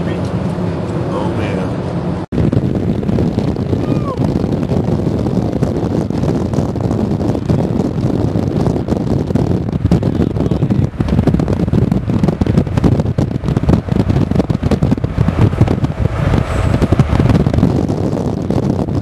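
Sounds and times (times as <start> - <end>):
car road noise: 0.0 - 19.0
wind buffeting microphone: 0.0 - 19.0.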